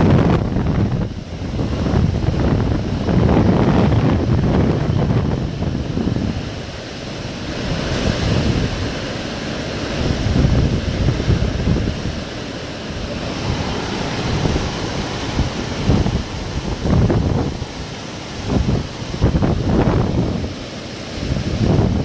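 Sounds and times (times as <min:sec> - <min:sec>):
strong wind gusting: 0:00.0 - 0:22.0
wind buffeting microphone: 0:00.0 - 0:22.0.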